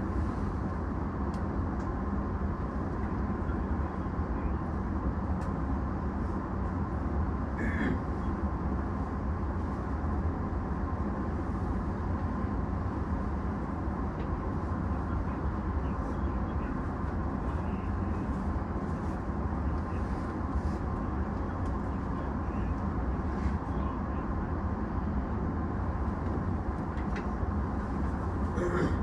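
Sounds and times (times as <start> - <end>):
train hum and fan noise: 0.0 - 29.0.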